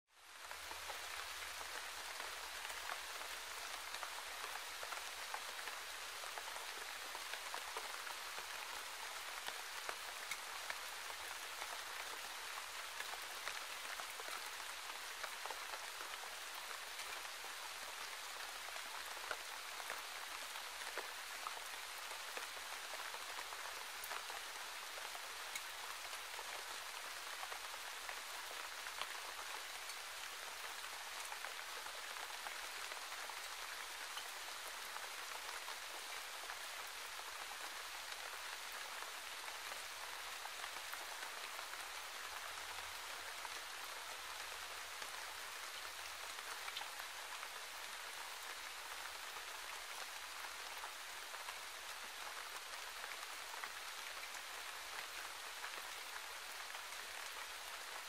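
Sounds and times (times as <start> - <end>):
steady rain falling: 0.1 - 58.0.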